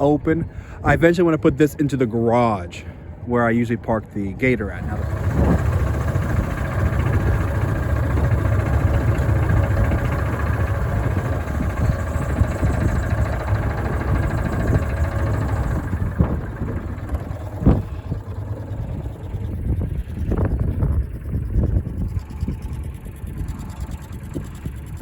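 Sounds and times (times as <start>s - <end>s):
engine running: 2.6s - 25.0s.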